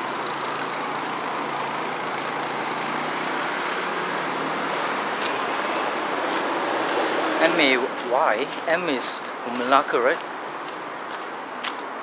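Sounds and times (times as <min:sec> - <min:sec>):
road and engine noise: 0:00.0 - 0:12.0.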